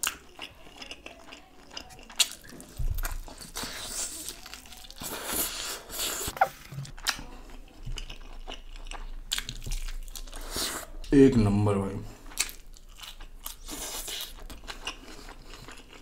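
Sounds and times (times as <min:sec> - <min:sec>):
teeth tearing meat: 0:00.0 - 0:07.3, 0:07.9 - 0:10.6, 0:12.3 - 0:16.0
wet chewing and lip smacks: 0:00.0 - 0:10.5, 0:12.3 - 0:16.0.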